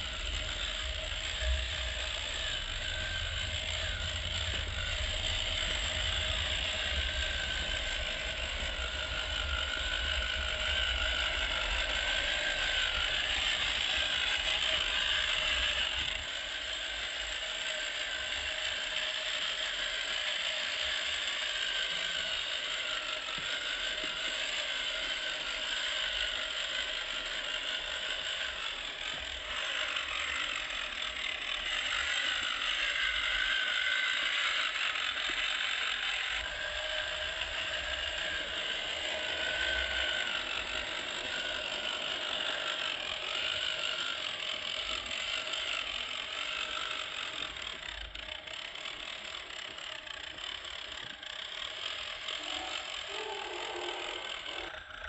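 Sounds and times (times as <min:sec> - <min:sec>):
toy car electric motor whining: 0:00.0 - 0:55.0.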